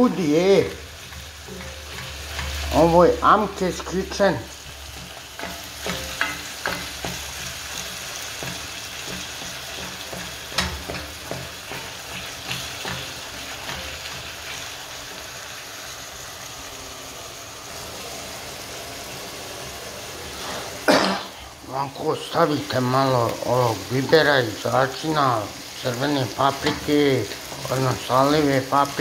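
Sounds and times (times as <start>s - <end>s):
meat and onions sizzling: 0.0s - 29.0s.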